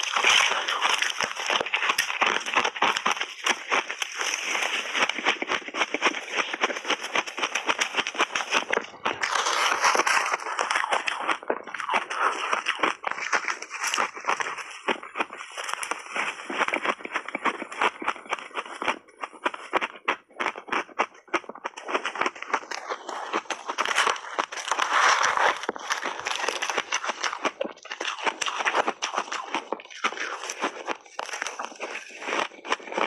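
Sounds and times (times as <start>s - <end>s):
crunching shaved ice: 0.0s - 33.0s.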